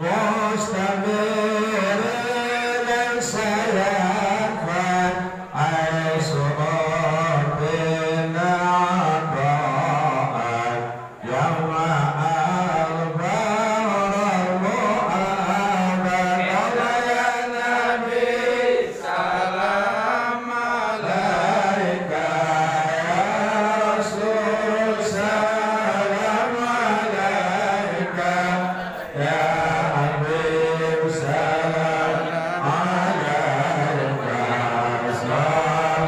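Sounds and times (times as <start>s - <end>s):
group chanting in unison: 0.0s - 36.0s.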